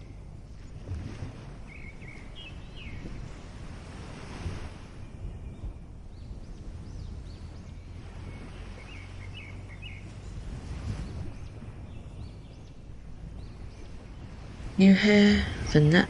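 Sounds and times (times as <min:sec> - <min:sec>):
ocean surf washing: 0:00.0 - 0:16.0
small birds chirping: 0:01.6 - 0:03.6, 0:05.0 - 0:16.0.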